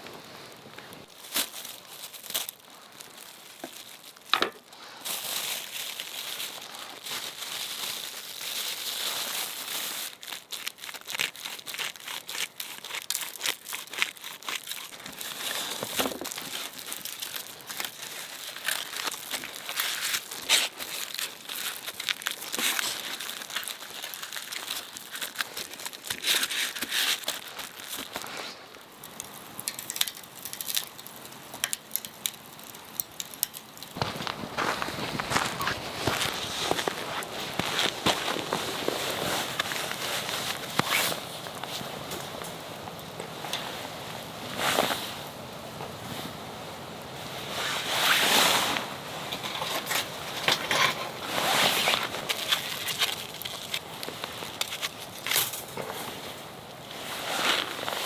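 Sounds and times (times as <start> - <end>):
crinkling and crumpling: 0.0 - 46.3, 47.1 - 58.0.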